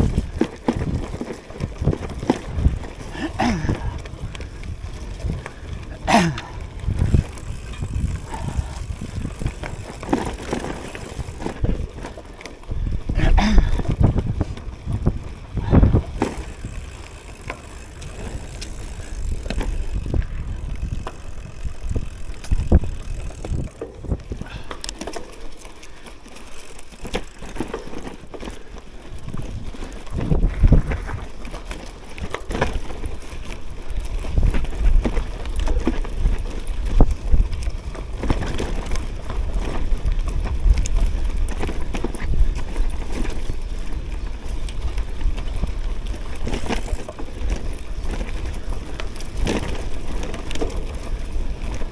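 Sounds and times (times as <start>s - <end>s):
bike knocking and rattling: 0.0s - 51.9s
bike tyres on dirt: 0.0s - 51.9s.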